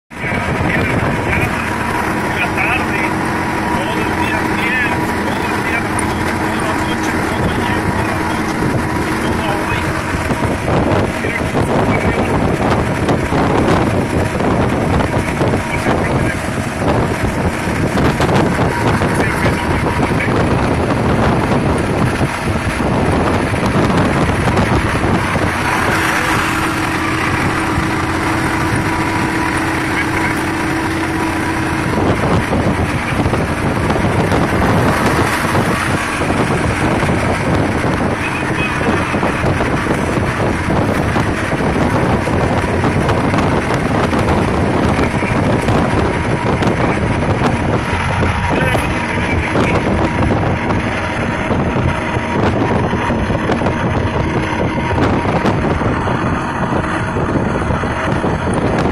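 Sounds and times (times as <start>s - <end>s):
road noise: 0.0s - 58.9s
truck engine: 0.0s - 58.9s
steady tone: 0.1s - 58.9s
wind noise: 0.1s - 58.9s.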